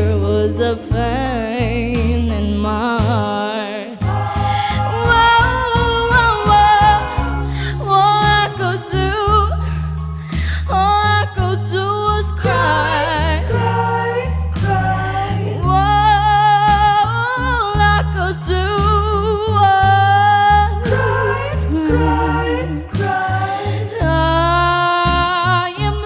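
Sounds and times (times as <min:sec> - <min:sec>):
backing track with bass line: 0:00.0 - 0:26.0
girl singing with vibrato: 0:00.0 - 0:26.0.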